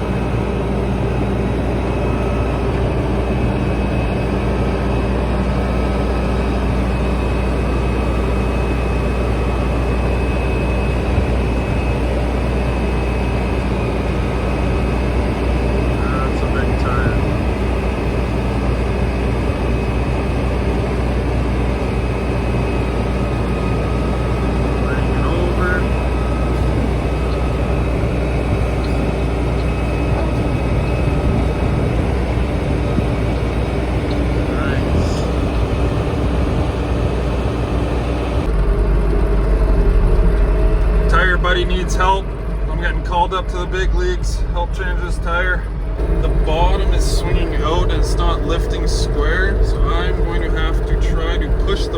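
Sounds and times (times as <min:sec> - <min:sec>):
faint high whine: 0:00.0 - 0:51.9
heavy engine running steadily: 0:00.0 - 0:51.9.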